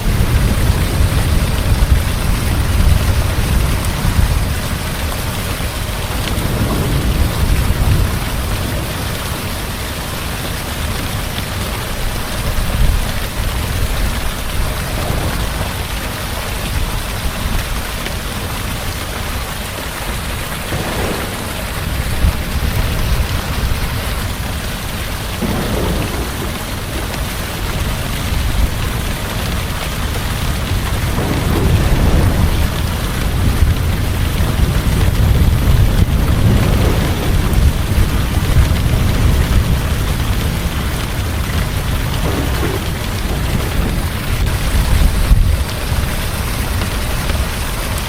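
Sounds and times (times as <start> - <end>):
heavy rainfall: 0.0 - 48.0
rolling thunder: 0.0 - 48.0.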